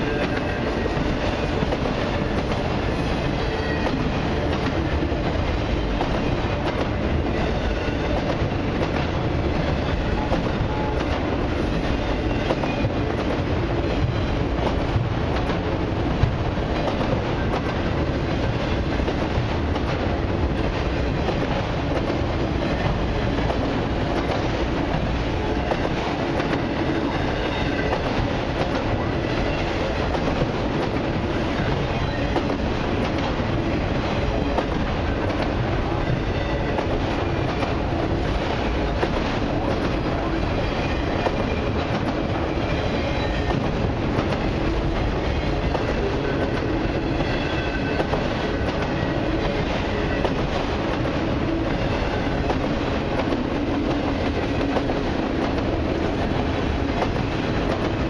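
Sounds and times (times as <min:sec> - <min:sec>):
train wheels rumbling on rail: 0:00.0 - 0:58.0
wheels clickety-clack: 0:00.0 - 0:58.0.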